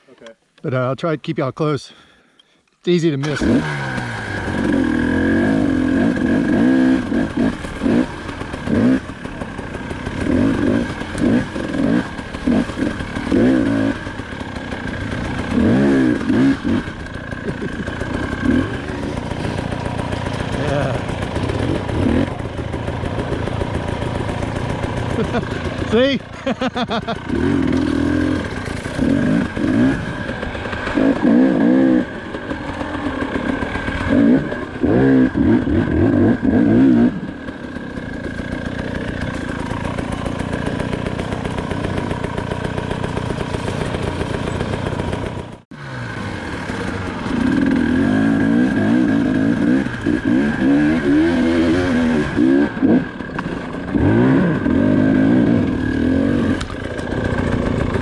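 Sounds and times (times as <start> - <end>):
two-stroke engine revving: 3.2 - 58.0.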